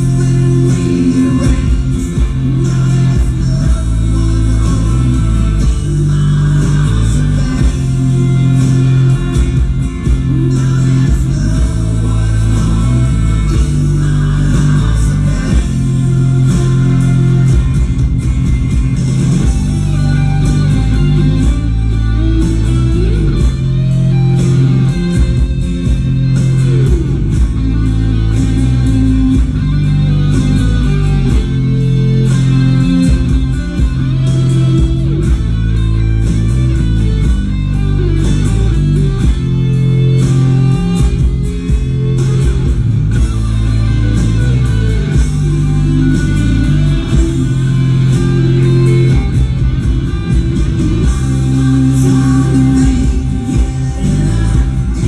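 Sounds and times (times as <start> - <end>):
rock music with guitar and bass: 0.0 - 55.0.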